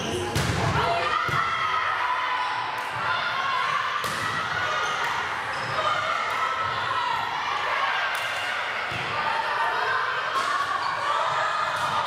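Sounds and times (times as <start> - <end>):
voices of players and spectators: 0.0 - 12.0.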